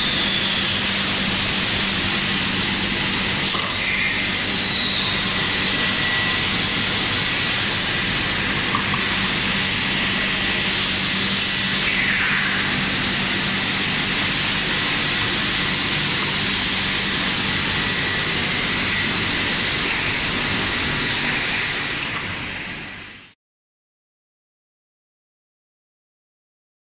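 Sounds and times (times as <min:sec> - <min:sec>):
machinery low hum: 0:00.0 - 0:23.3
machinery high whine: 0:00.0 - 0:23.4.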